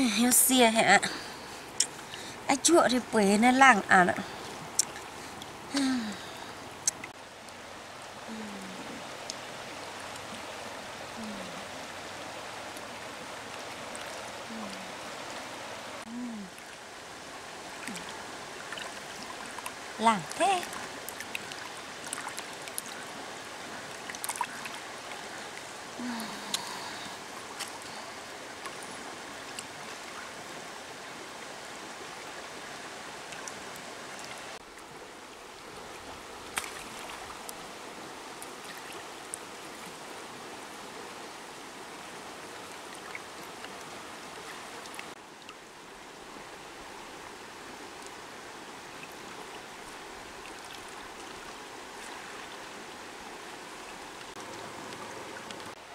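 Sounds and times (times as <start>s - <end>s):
stream running over stones: 0.0s - 55.9s.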